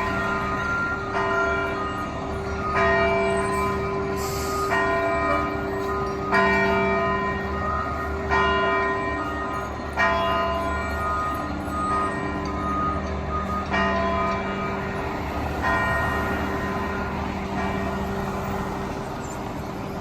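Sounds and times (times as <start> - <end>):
large bell ringing: 0.0 - 18.7.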